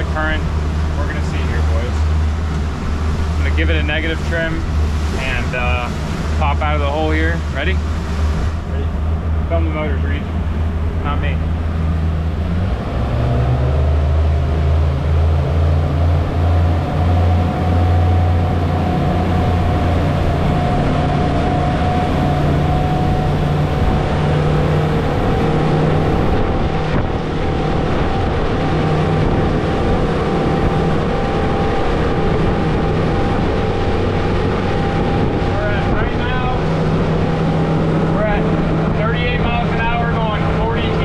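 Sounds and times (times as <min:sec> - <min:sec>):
outboard motors revving: 0:00.0 - 0:41.0.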